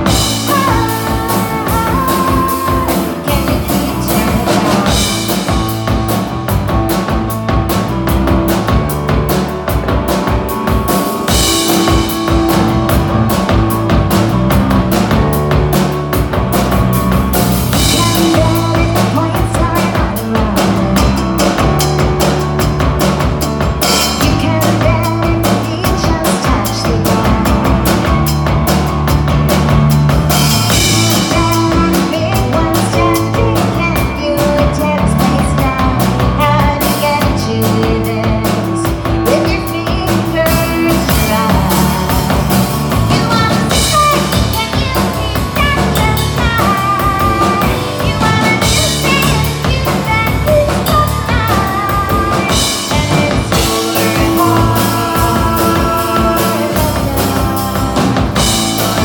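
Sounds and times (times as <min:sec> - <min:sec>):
drum kit with rimshots: 0:00.0 - 0:59.0
rock band playing live: 0:00.0 - 0:59.0.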